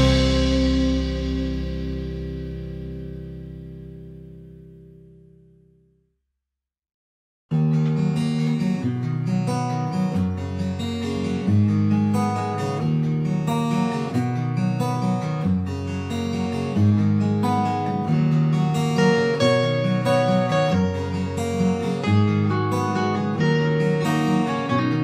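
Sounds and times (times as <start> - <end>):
strummed acoustic guitar music: 0.0 - 5.6, 7.5 - 25.0.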